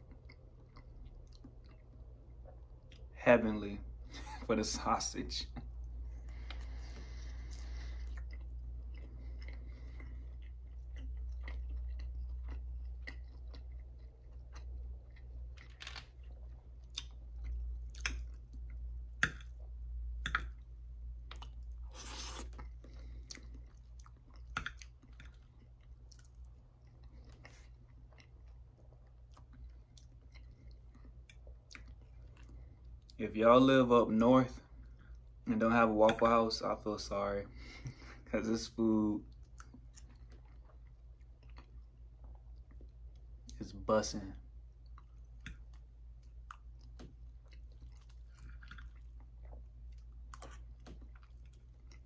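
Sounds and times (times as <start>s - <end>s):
person chewing: 0.0s - 3.1s, 5.5s - 33.2s, 39.3s - 43.6s, 44.6s - 52.0s
steady low hum: 0.0s - 52.0s.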